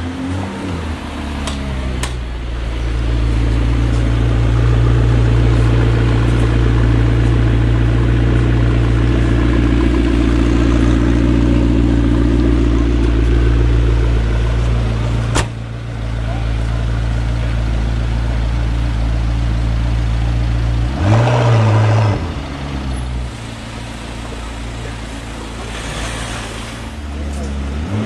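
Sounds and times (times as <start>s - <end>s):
car engine idling: 0.0s - 21.1s, 22.2s - 27.9s.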